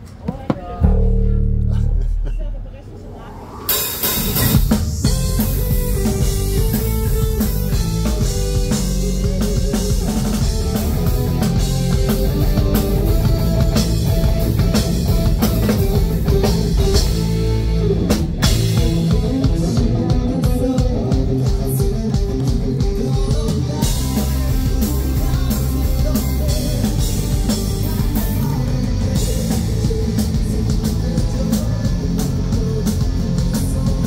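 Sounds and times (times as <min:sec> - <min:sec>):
pounding drum kit: 0:00.2 - 0:03.0, 0:03.7 - 0:34.0
rock band playing live: 0:03.7 - 0:34.0.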